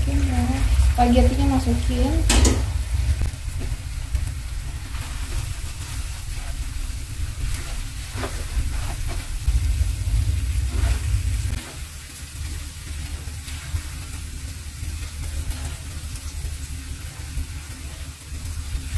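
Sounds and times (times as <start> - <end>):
food sizzling in a frying pan: 0.0 - 18.9
low rumble: 0.0 - 18.9.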